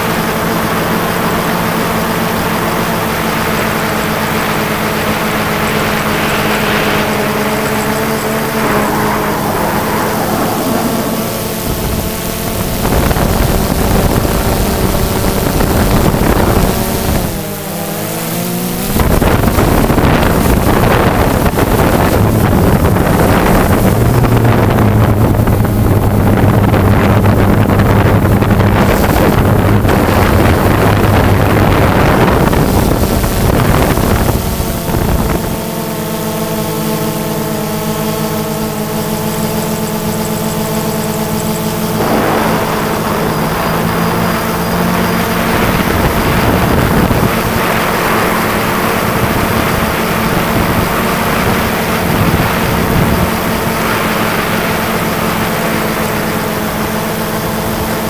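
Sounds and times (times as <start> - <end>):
drone motors whining: 0.0 - 58.0
wind on microphone: 0.0 - 58.0.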